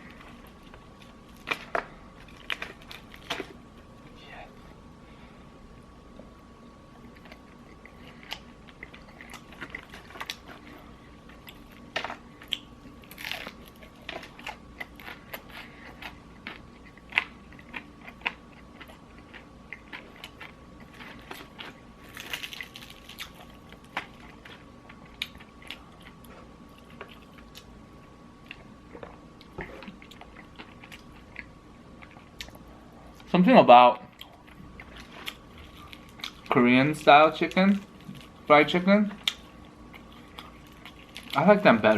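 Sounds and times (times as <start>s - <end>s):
crunchy chewing of fried chicken: 0.0s - 4.1s, 6.8s - 33.4s, 34.0s - 41.9s.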